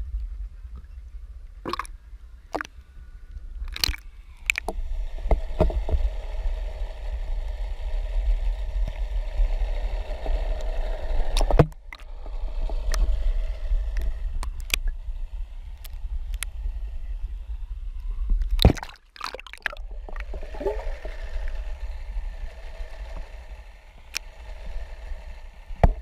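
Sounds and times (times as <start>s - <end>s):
faint steady hum: 0.0s - 26.0s
underwater rumble of moving water: 0.0s - 26.0s.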